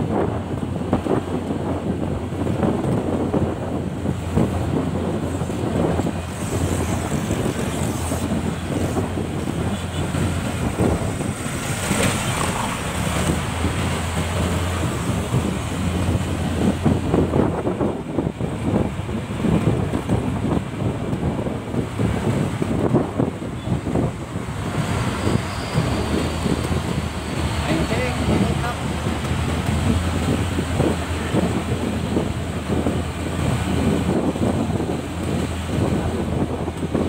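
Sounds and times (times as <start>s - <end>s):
traffic road noise: 0.0s - 37.0s
wind buffeting microphone: 0.0s - 37.0s.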